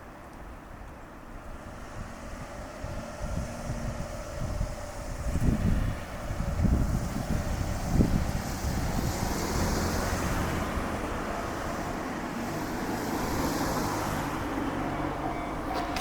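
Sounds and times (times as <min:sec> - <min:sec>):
road traffic engine hum: 0:00.0 - 0:16.0
wind buffeting microphone: 0:01.3 - 0:16.0.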